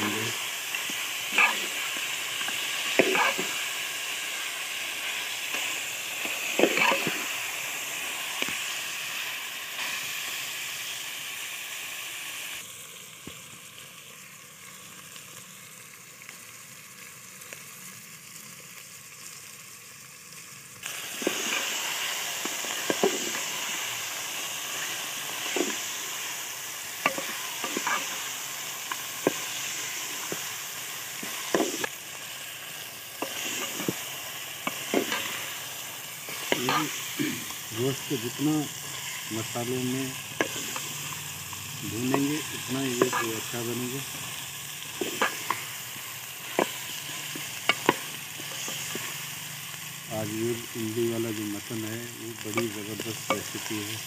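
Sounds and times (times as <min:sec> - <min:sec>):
meat sizzling in a pot: 0:00.0 - 0:54.0.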